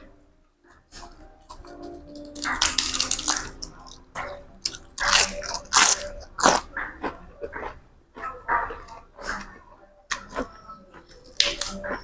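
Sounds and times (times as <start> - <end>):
crunchy chewing: 0.7 - 12.0.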